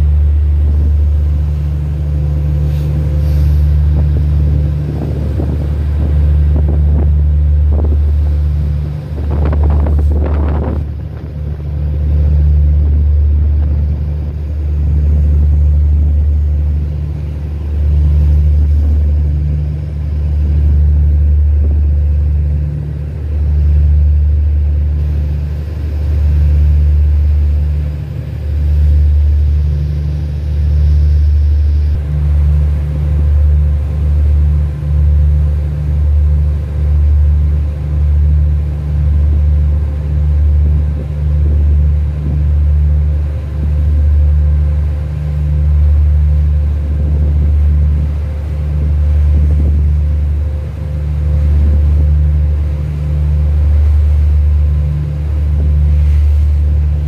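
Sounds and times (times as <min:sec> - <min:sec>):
boat engine rumble: 0:00.0 - 0:57.0.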